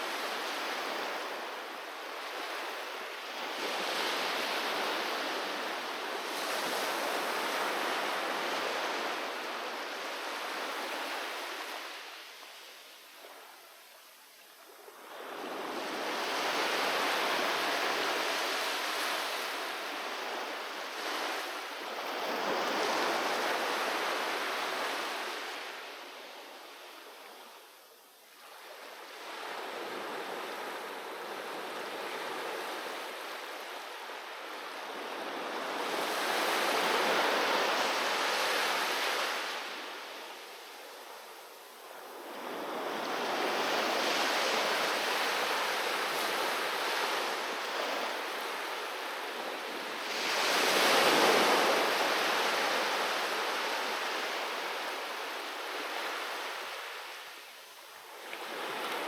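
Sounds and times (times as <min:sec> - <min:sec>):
ocean waves breaking on beach: 0:00.0 - 0:13.6, 0:14.6 - 0:27.6, 0:28.4 - 0:59.0.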